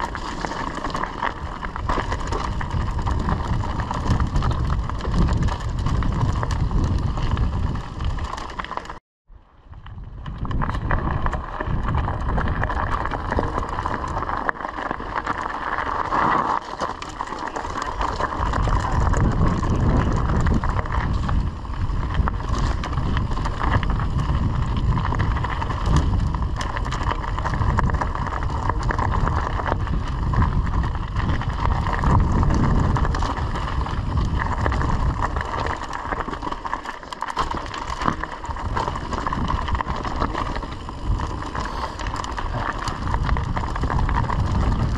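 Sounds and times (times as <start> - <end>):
bike rattling: 0.0 - 9.0, 9.8 - 44.9
bike tyres rolling over loose stones: 0.0 - 44.9
wind rumbling on microphone: 0.0 - 44.9.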